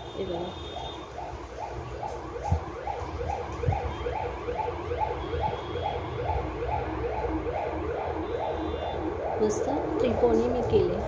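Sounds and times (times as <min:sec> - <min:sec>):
electronic siren yelping: 0:00.0 - 0:11.0.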